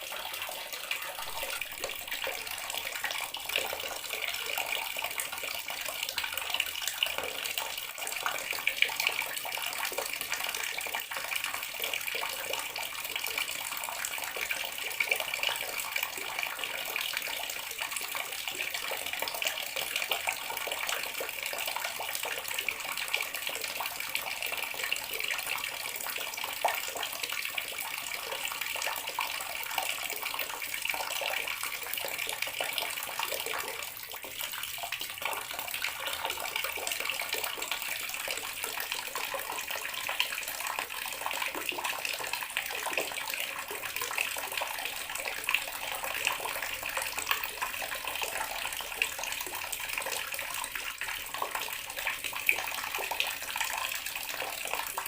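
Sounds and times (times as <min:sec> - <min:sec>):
water tap running into basin: 0:00.0 - 0:55.0.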